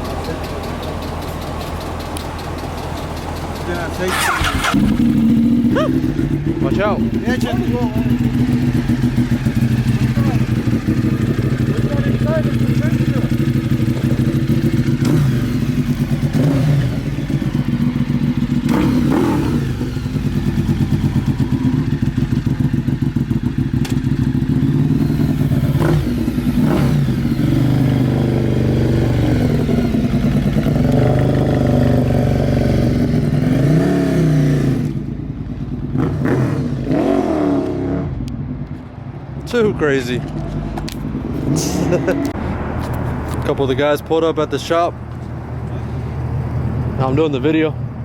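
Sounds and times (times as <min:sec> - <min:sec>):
motorcycle engine revving: 0:00.0 - 0:38.5.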